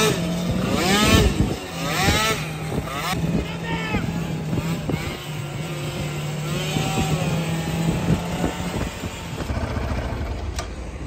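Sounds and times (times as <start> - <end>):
two-stroke scooter engine running: 0.0 - 11.0.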